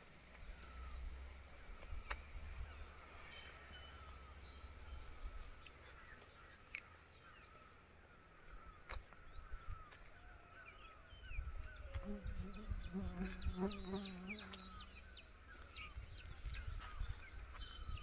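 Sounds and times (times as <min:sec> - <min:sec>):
birds chirping and calling: 0:00.3 - 0:18.0.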